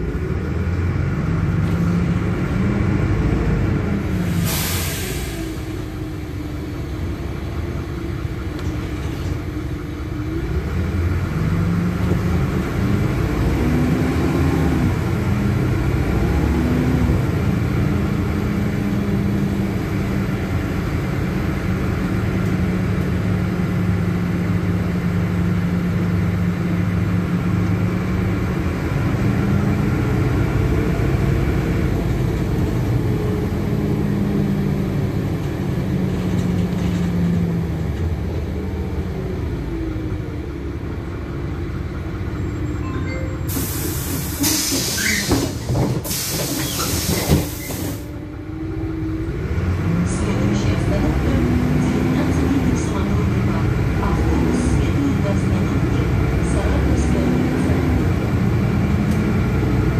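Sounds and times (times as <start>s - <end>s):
bus diesel engine hum: 0.0s - 59.9s.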